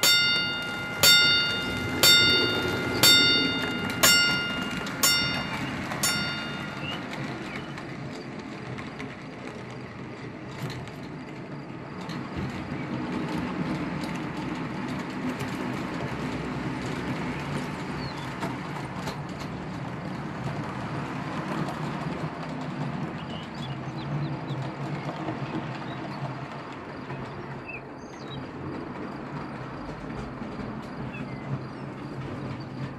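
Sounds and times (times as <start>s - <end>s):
model train rumbling: 0.0s - 32.9s
wheels clicking over rails: 0.0s - 32.9s.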